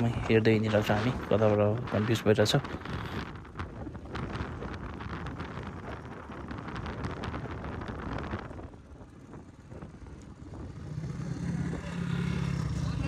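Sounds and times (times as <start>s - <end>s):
dirt bike engine humming: 0.0s - 13.0s
wind buffeting microphone: 0.0s - 13.0s.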